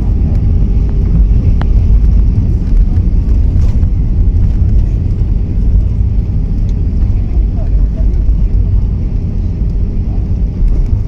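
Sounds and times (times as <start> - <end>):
airliner engine rumble: 0.0 - 11.0
wheels running on runway: 0.0 - 11.0.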